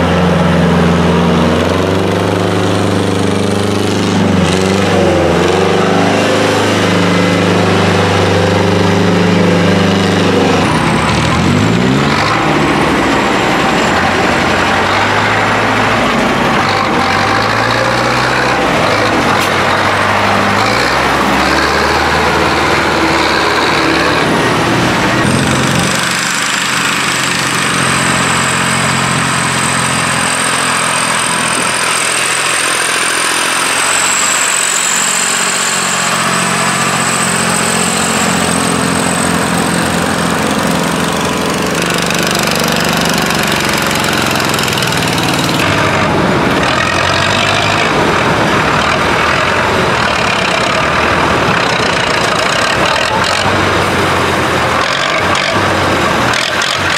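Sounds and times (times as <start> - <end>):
tractor engine revving: 0.0 - 56.9.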